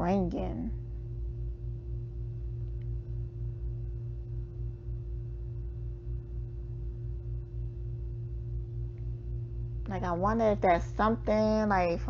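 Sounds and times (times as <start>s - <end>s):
low wavering hum: 0.0s - 12.0s
steady ringing tone: 0.0s - 12.0s.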